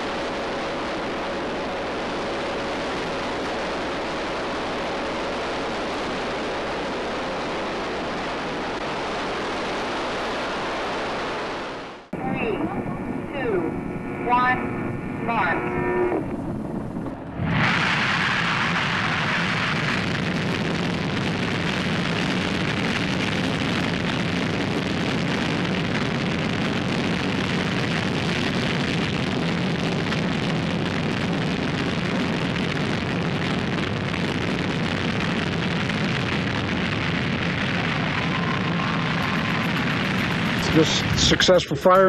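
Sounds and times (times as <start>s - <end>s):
rocket engine roaring: 0.0s - 42.0s.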